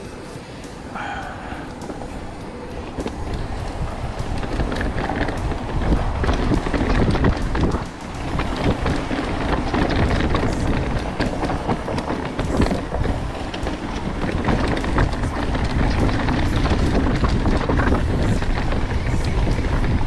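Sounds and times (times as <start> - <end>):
wind rushing over microphone: 1.0 - 20.0
tyres rolling on loose dirt: 1.6 - 20.0
bike clattering over bumps: 2.7 - 20.0.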